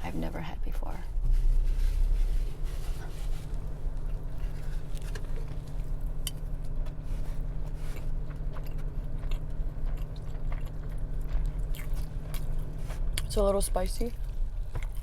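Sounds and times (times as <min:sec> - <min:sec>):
steady low hum: 0:00.0 - 0:15.0
chewing crunchy fried food: 0:02.8 - 0:15.0.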